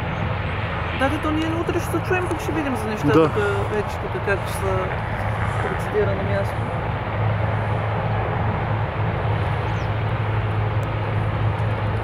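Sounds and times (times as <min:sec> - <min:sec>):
continuous low drone: 0:00.0 - 0:12.0
helicopter turbine and rotor noise: 0:00.0 - 0:12.0.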